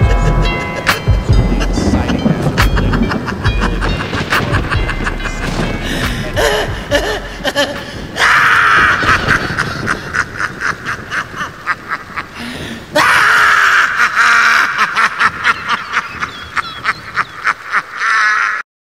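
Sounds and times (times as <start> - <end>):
man cackling laugh: 0.0 - 18.6.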